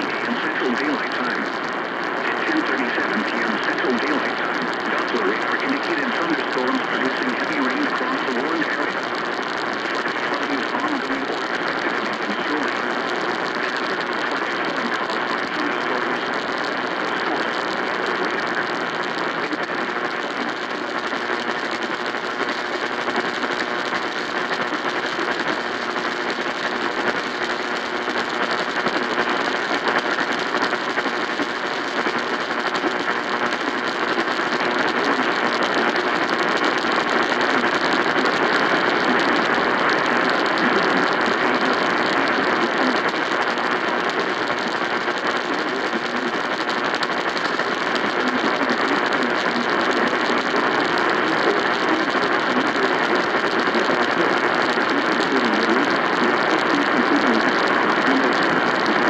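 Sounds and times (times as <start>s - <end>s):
radio static crackle and hiss: 0.0s - 59.0s.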